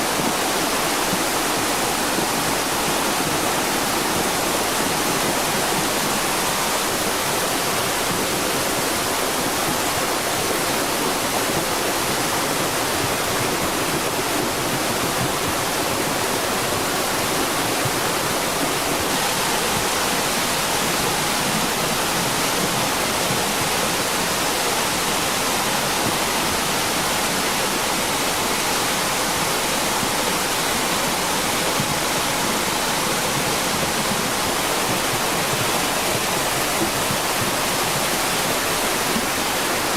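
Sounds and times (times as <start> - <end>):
torrent of rushing water: 0.0 - 39.9.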